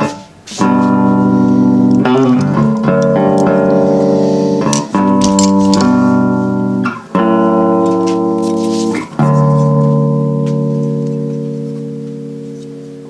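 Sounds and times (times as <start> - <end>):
plucked bass guitar notes: 0.0 - 13.0.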